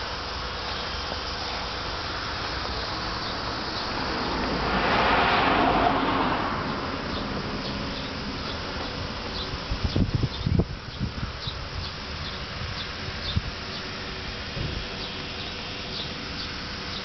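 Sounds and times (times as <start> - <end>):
scooter engine buzzing: 0.0 - 17.0.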